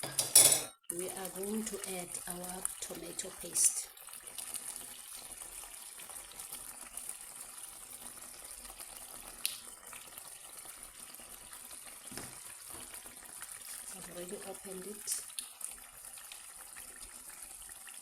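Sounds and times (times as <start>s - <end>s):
sauce sizzling in a pot: 0.8s - 18.0s.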